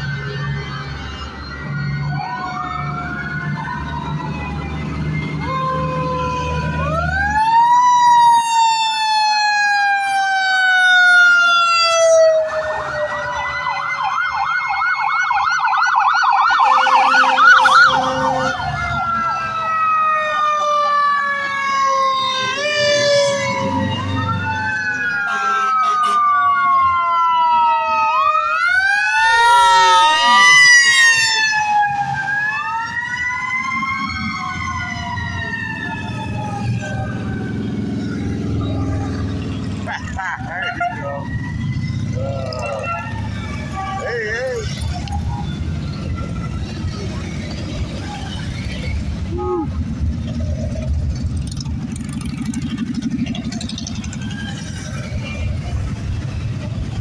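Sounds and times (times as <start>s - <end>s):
fire engine sirens wailing: 0.0s - 57.0s
siren fast yelp: 0.3s - 39.3s, 39.9s - 50.7s.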